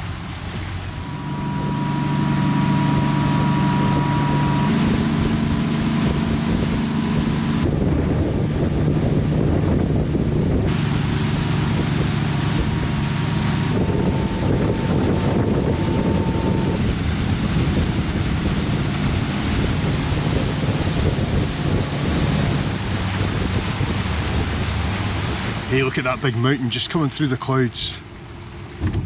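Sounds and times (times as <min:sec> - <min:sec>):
wind noise on microphone: 0:00.0 - 0:26.0, 0:28.7 - 0:29.0
boat engine humming: 0:00.0 - 0:29.0
water rushing: 0:00.0 - 0:29.0.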